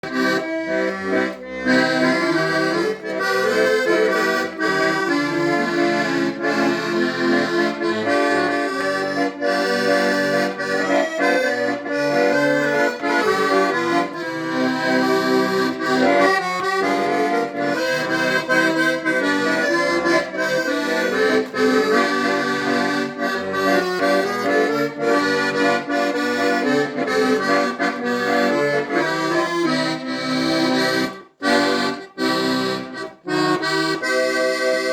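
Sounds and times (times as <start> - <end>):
accordion playing chords: 0.0 - 34.9.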